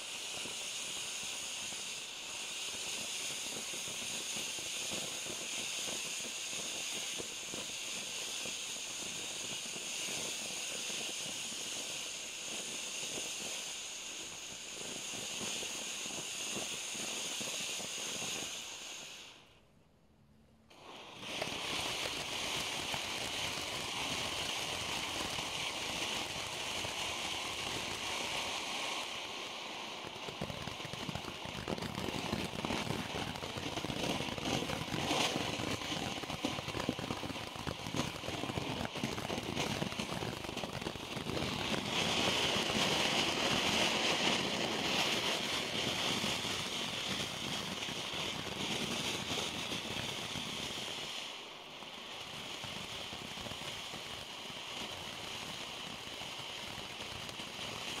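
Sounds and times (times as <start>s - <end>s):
firework fountain hissing and crackling: 0.0s - 19.7s, 20.7s - 58.0s.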